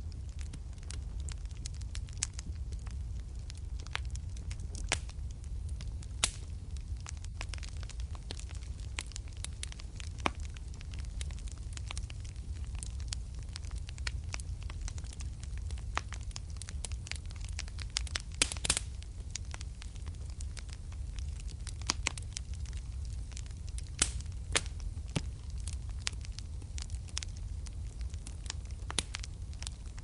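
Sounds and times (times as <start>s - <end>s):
fire rumbling: 0.0s - 30.0s
wood fire crackling and popping: 0.0s - 30.0s.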